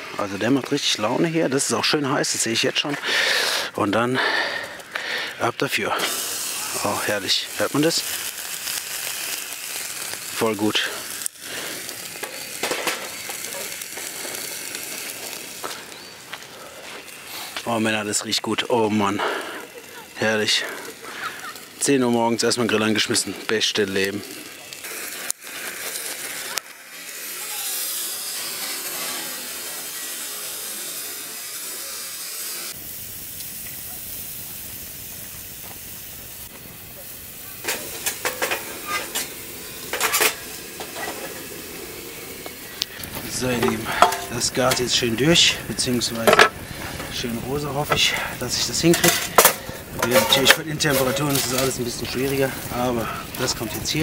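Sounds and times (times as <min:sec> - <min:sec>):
steak sizzling on a grill: 0:00.0 - 0:54.0.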